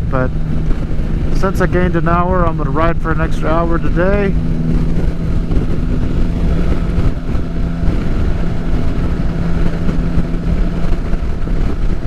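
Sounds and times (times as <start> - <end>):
motorcycle engine droning: 0.0 - 12.0
wind and road noise: 0.0 - 12.0.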